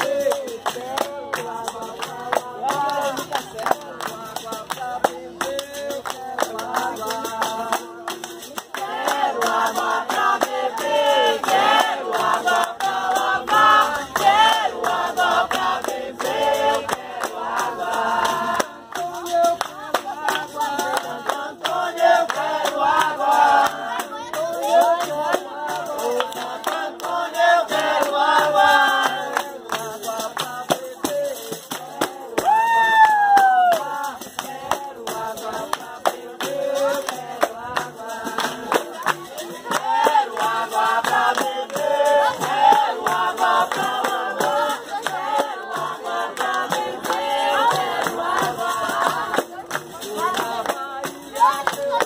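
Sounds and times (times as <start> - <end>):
group singing: 0.0 - 52.0
hand-clapping: 0.0 - 52.0.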